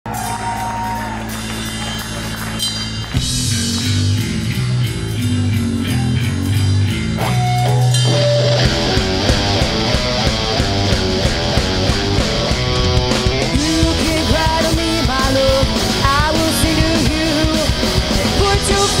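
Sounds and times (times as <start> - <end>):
rock music: 0.1 - 19.0.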